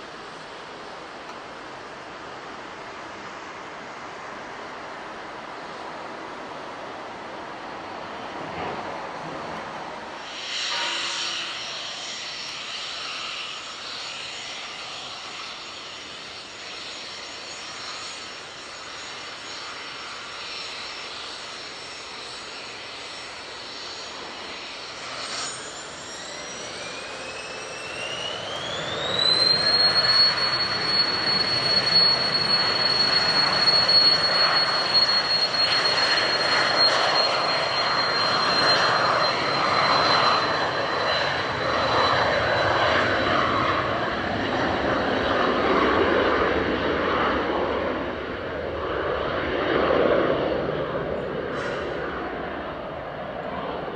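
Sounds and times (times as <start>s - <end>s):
jet engine rumble: 0.0s - 53.9s
jet engine whine rising: 0.0s - 53.9s.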